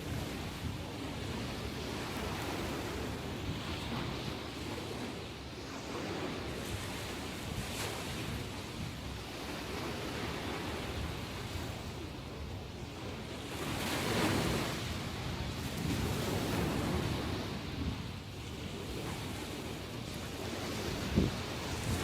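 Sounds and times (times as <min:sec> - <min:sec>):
ocean waves breaking on shore: 0:00.0 - 0:22.0
wind on microphone: 0:00.0 - 0:22.0.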